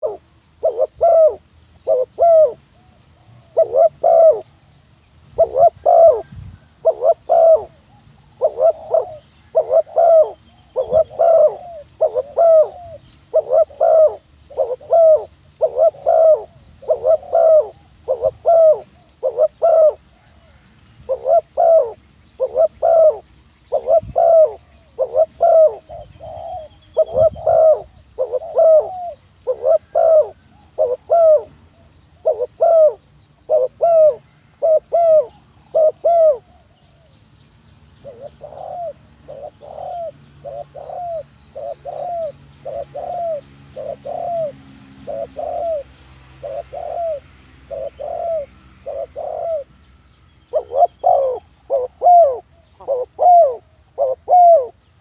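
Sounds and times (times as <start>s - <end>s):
dove cooing: 0.0s - 37.2s, 38.0s - 49.8s, 50.5s - 55.0s.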